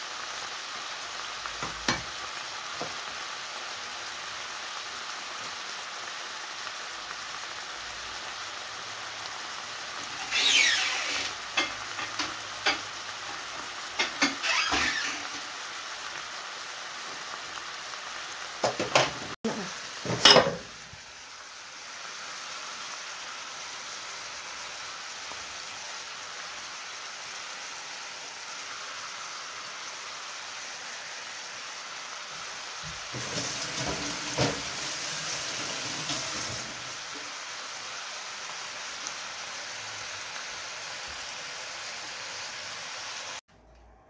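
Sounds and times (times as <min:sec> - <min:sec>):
food sizzling in a frying pan: 0:00.0 - 0:43.5.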